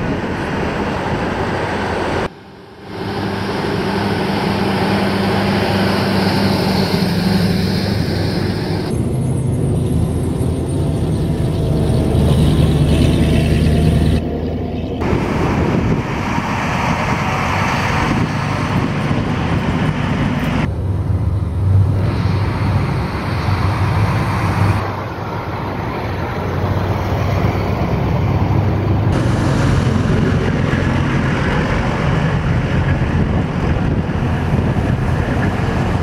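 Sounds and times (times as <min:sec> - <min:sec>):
diesel truck engines rumbling: 0:00.0 - 0:36.0.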